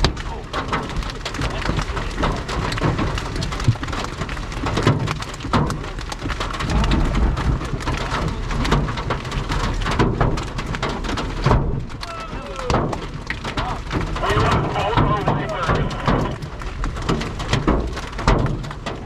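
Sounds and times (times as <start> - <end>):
hailstones pounding a vehicle: 0.0 - 19.0
wind and rain: 0.0 - 19.0.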